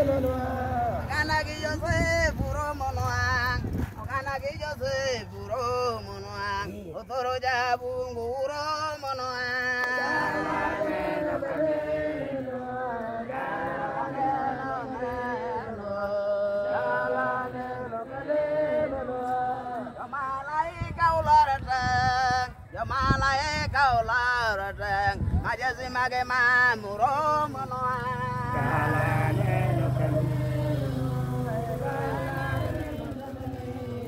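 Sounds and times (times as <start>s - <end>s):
crowd singing a religious chant: 0.0s - 21.7s, 22.4s - 34.0s.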